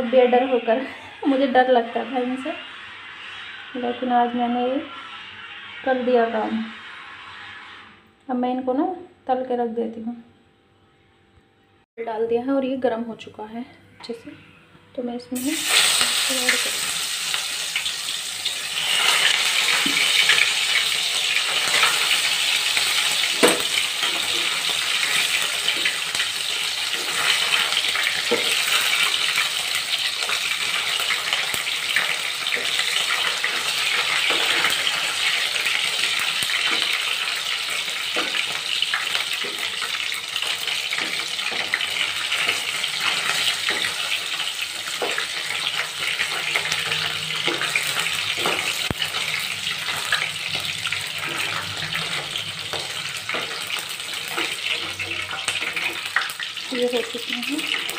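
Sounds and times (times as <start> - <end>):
fish sizzling in hot oil: 0.0 - 8.0, 15.4 - 57.9.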